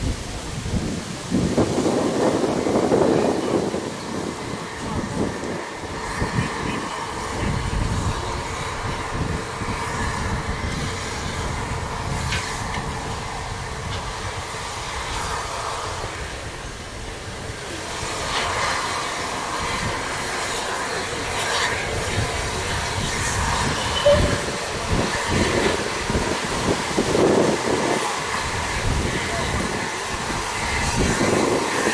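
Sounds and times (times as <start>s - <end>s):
steam train wheels rumbling on rails: 0.0s - 31.9s.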